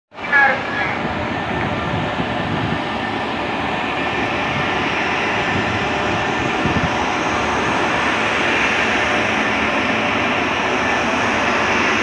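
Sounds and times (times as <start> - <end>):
freight train passing: 0.1 - 12.0.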